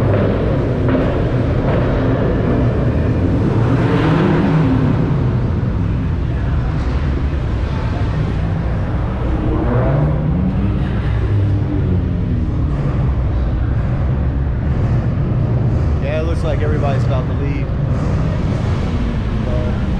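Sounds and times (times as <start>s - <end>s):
car engines idling: 0.0s - 19.9s.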